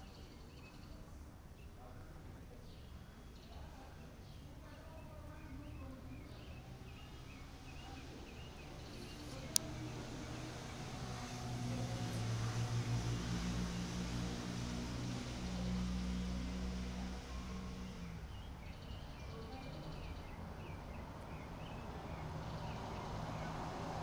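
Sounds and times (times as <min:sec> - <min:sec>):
low engine-like hum: 0:04.7 - 0:24.0.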